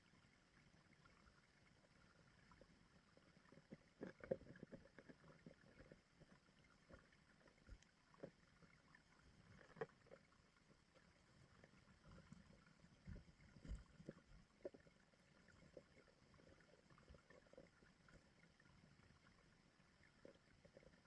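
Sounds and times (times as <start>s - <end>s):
stream water: 0.0s - 21.0s.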